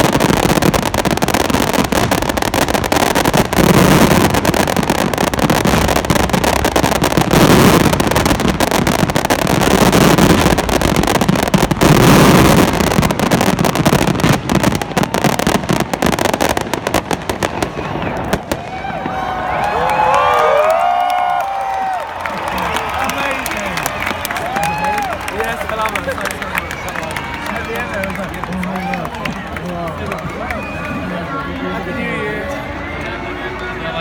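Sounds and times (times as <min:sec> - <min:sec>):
fireworks crackling and banging: 0:00.0 - 0:34.0.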